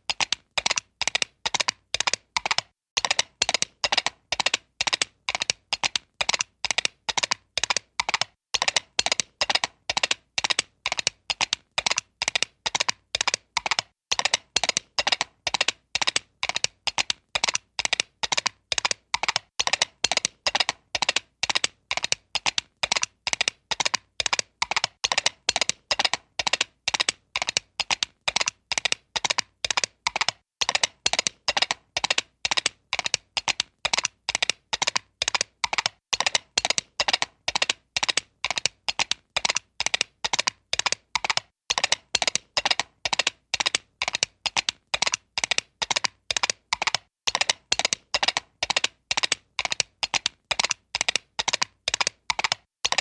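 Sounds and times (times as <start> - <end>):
cartoon horse hooves galloping: 0.0 - 53.0.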